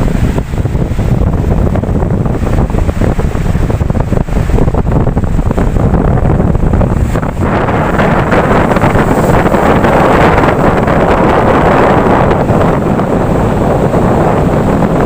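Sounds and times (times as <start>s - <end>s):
ocean waves breaking: 0.0s - 15.0s
wind buffeting microphone: 0.0s - 15.0s.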